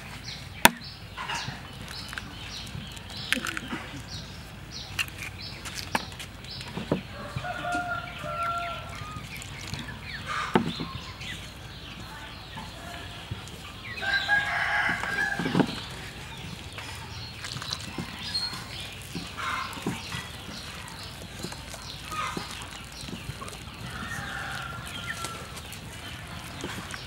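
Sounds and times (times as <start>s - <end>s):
hands squishing batter: 0.0s - 27.0s.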